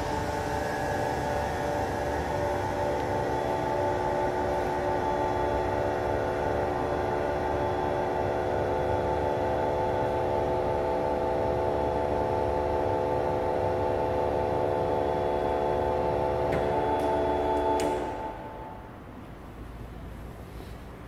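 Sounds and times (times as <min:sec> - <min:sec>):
thermoforming press humming: 0:00.0 - 0:21.0.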